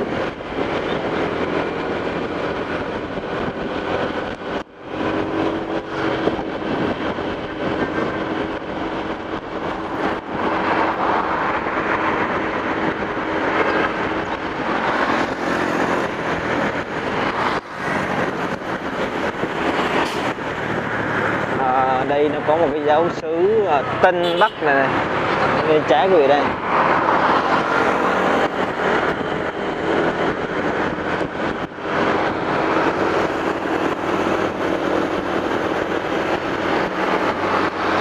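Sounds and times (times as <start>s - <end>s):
highway traffic rushing: 0.0s - 38.0s.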